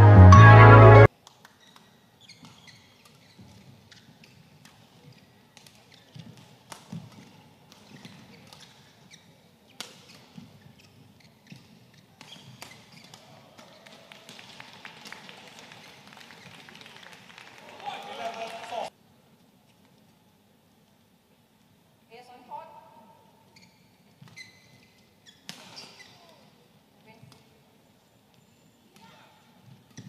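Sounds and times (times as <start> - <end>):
quiet arena ambience: 0.0 - 30.0.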